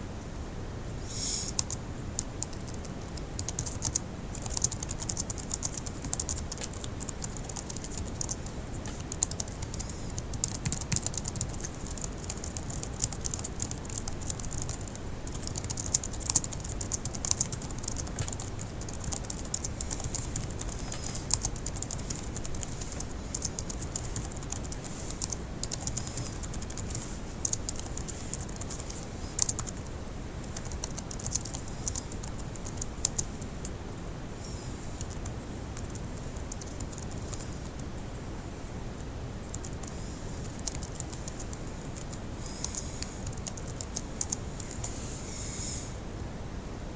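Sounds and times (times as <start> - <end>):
fast typing on laptop keyboard: 1.6 - 33.8, 34.4 - 37.8, 39.4 - 45.0.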